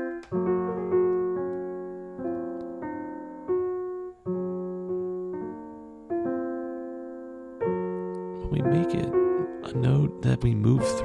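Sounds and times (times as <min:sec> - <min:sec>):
piano-like keyboard notes: 0:00.0 - 0:11.0.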